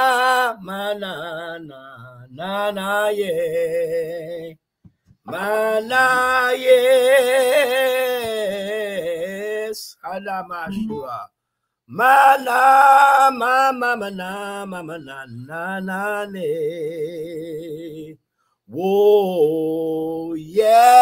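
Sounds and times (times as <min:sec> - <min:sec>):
man singing unaccompanied: 0:00.0 - 0:04.6, 0:05.2 - 0:11.3, 0:11.9 - 0:21.0.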